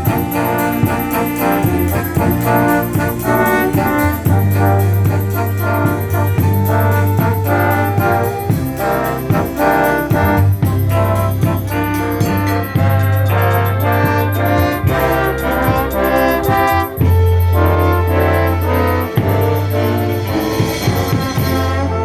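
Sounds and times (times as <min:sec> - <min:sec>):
concert band playing: 0:00.0 - 0:22.0
sustained low bass line: 0:00.0 - 0:22.0
trombones and trumpets: 0:00.0 - 0:22.0.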